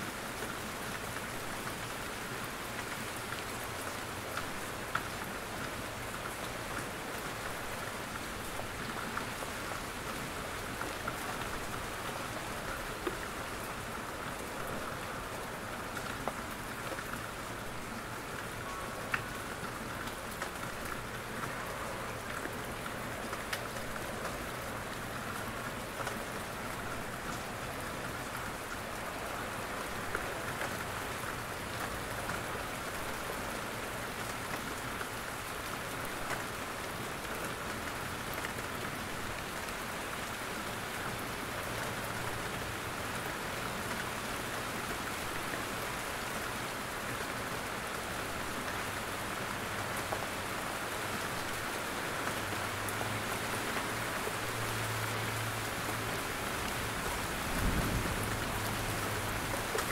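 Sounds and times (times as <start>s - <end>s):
rain dripping from trees: 0.0s - 59.9s.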